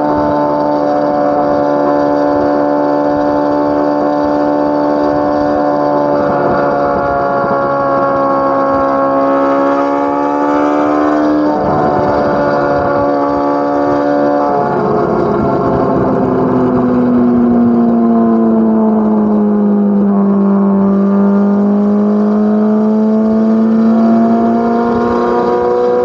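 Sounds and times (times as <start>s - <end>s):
car engine exhaust revving: 0.0s - 26.0s.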